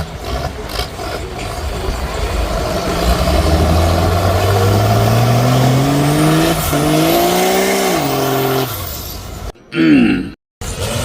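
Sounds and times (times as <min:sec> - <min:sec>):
truck engine revving: 0:00.0 - 0:09.5, 0:10.6 - 0:11.0.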